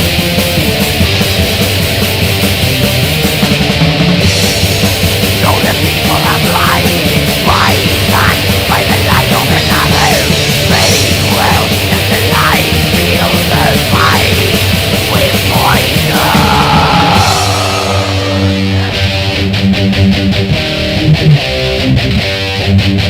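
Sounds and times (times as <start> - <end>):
fast drumming and cymbals: 0.0 - 19.2
heavily distorted guitars: 0.0 - 23.0.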